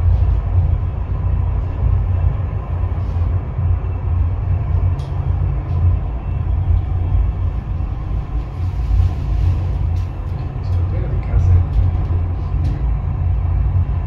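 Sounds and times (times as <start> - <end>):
funicular cabin rumble: 0.0 - 14.0.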